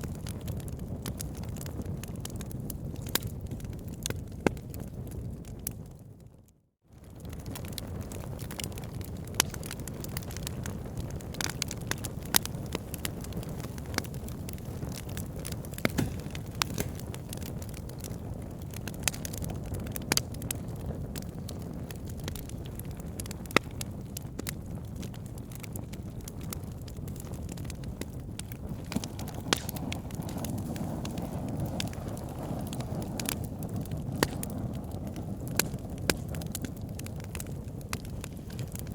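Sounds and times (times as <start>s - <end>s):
wood fire crackling: 0.0s - 6.1s, 7.0s - 38.9s.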